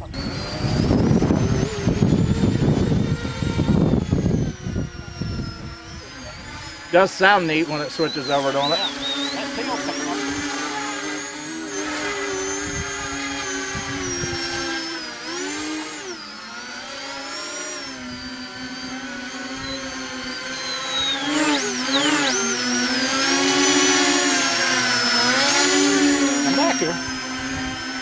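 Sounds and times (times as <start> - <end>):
model aircraft propellers whining: 0.0 - 28.0.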